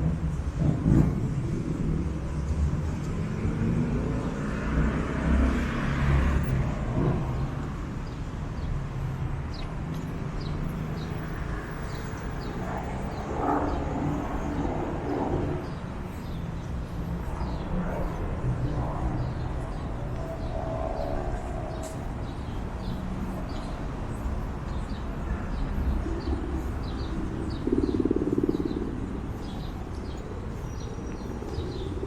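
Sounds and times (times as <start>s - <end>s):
cars passing with low rumble: 0.0s - 32.0s.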